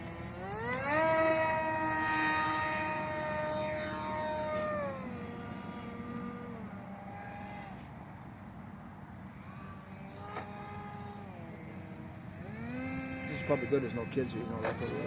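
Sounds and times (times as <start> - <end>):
model boat motor droning: 0.0 - 15.0.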